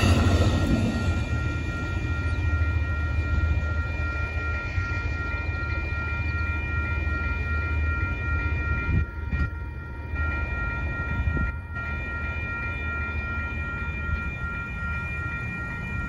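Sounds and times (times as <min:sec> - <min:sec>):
railroad crossing bell ringing: 0:00.0 - 0:16.0
train passing rumble: 0:00.0 - 0:16.0.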